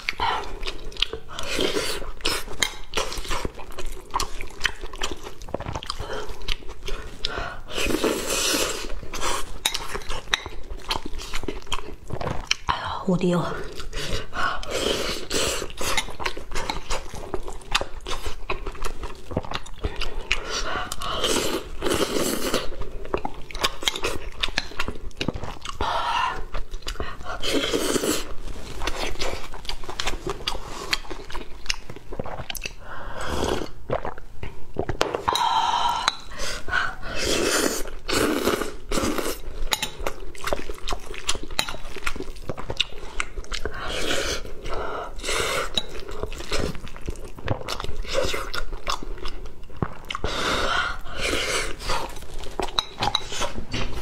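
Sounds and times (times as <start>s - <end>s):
close chewing and lip smacks: 0.0s - 12.8s, 13.6s - 32.9s, 33.5s - 35.3s, 36.0s - 54.0s.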